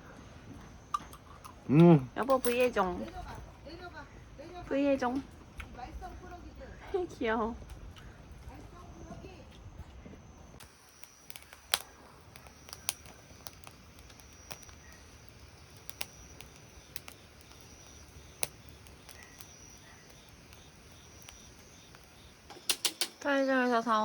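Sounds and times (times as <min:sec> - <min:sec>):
faint high-pitched whine: 0:00.0 - 0:24.0
wood fire pops and crackles: 0:00.4 - 0:24.0.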